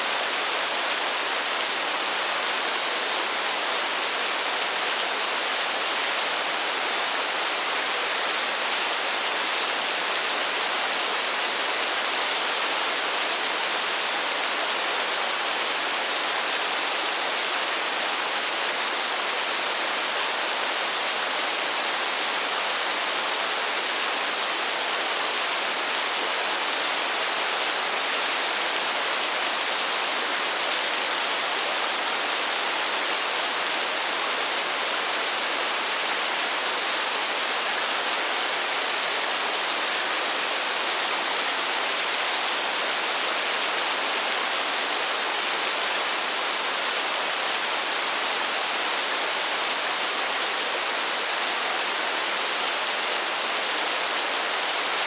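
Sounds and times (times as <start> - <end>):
rain falling in a forest: 0.0 - 55.0.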